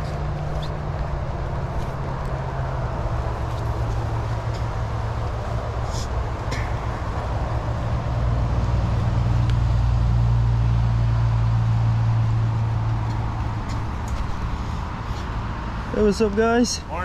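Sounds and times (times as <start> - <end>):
vehicle engine rumble passing: 0.0 - 17.0.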